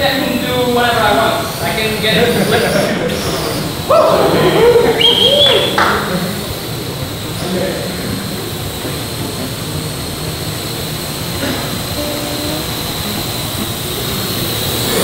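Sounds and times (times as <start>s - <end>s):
drone rotors buzzing: 0.0s - 15.0s.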